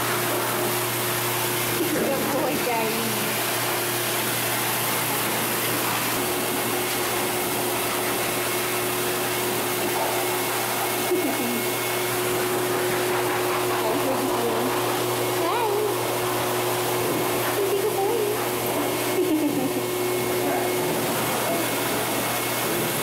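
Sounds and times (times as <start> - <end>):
blower rushing air: 0.0 - 23.0.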